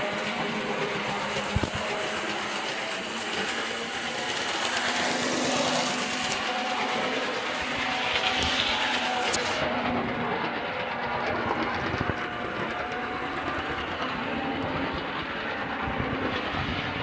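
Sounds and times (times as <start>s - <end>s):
model train motor whirring: 0.0s - 17.0s
wheels running over track: 0.0s - 17.0s.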